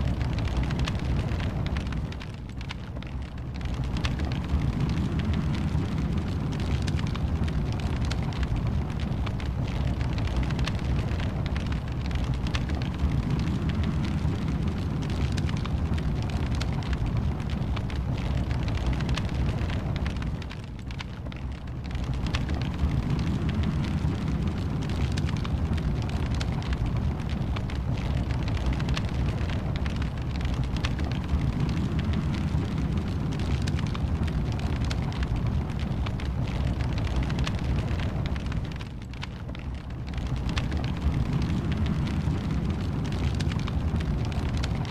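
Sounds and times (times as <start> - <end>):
fire crackling: 0.0 - 44.9
steady low rumble: 0.0 - 44.9.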